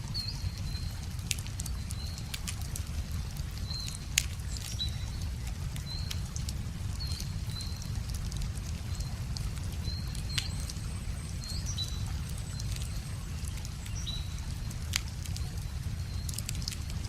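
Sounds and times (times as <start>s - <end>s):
small birds chirping: 0.0s - 17.0s
wood fire crackling and popping: 0.0s - 17.0s.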